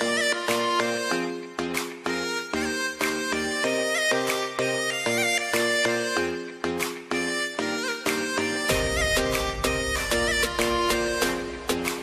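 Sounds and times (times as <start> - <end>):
reedy melody over pulsing beat: 0.0 - 12.0.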